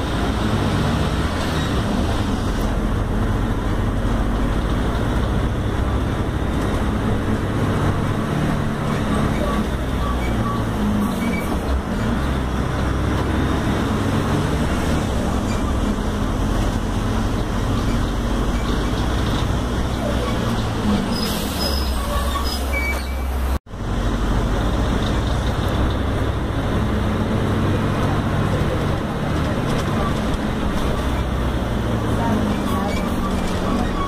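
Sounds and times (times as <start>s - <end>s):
bus diesel engine running: 0.0s - 34.0s
road noise: 0.0s - 34.0s.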